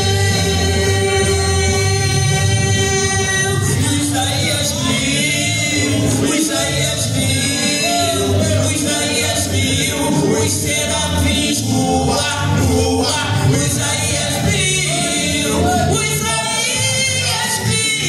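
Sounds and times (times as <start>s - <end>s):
choir-like singing: 0.0s - 18.0s
steady bass line: 0.0s - 18.0s.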